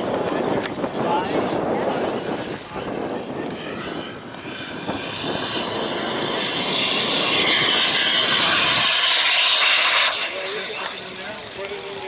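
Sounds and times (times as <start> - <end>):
model jet turbine whine: 0.0 - 12.0.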